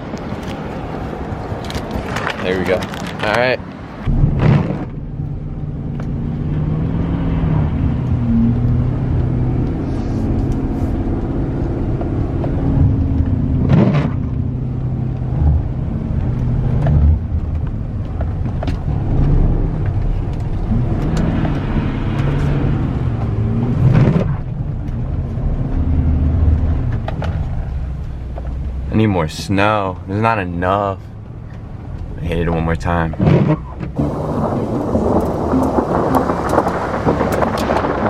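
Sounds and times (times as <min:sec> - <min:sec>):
car engine revving: 0:00.4 - 0:29.4, 0:31.1 - 0:38.0.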